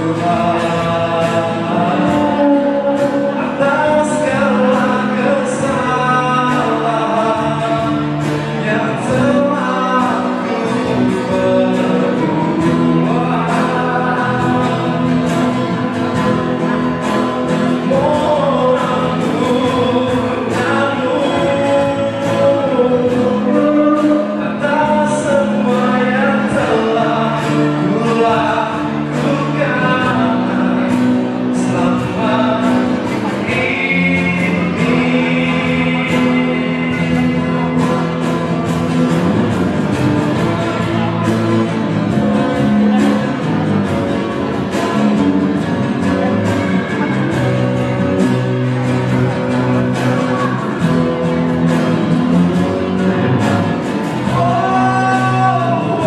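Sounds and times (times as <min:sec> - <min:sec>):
cajon beat: 0:00.0 - 0:56.0
man singing: 0:00.0 - 0:56.0
strummed acoustic guitars: 0:00.0 - 0:56.0.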